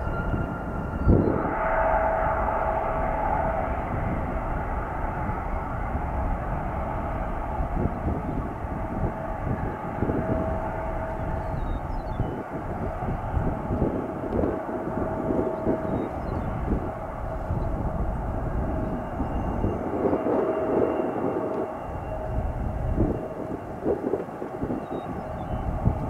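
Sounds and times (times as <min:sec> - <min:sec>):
jet engine whine: 0:00.0 - 0:26.0
jet engines rushing: 0:00.0 - 0:26.0.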